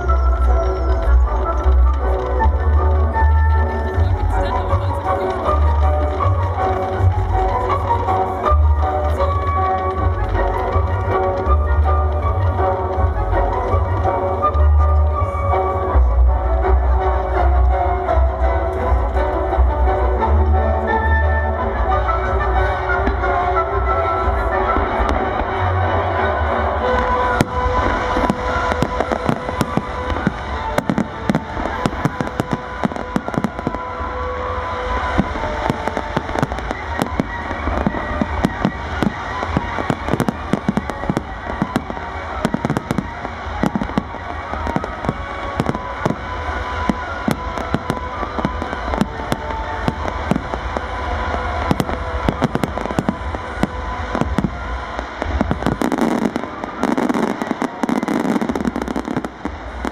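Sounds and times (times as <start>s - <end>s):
fireworks bursts and crackle: 0.0s - 59.9s.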